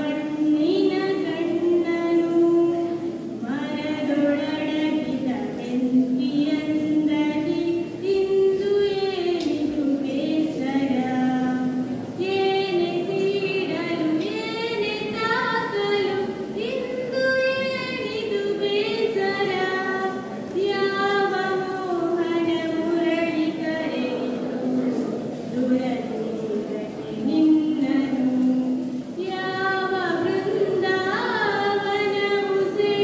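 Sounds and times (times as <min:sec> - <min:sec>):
girl singing: 0:00.0 - 0:33.0.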